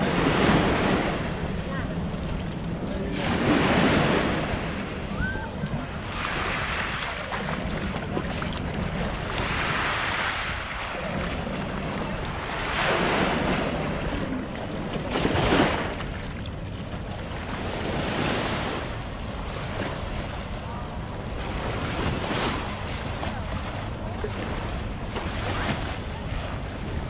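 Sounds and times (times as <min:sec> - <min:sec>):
small waves breaking on sand: 0:00.0 - 0:01.8, 0:03.0 - 0:16.4, 0:17.4 - 0:27.0
wind rumbling on microphone: 0:00.0 - 0:27.0.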